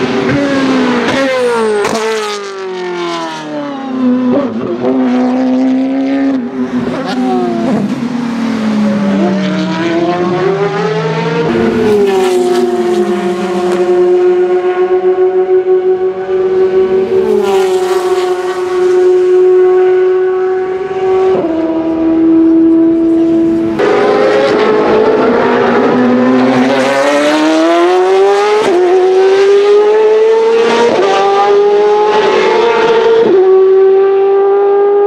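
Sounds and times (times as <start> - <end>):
race car engine at high revs: 0.0 - 35.0.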